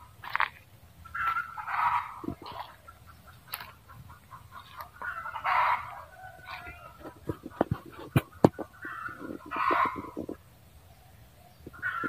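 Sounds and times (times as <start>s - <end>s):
junglefowl clucking: 0.0s - 10.4s, 11.6s - 12.0s.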